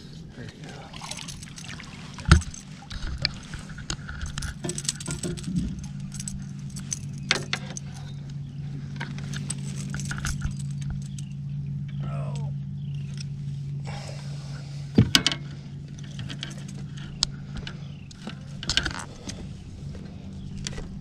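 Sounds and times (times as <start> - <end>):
steady low hum: 0.0 - 21.0
fishing tackle rattling on boat: 0.5 - 13.4, 14.9 - 21.0.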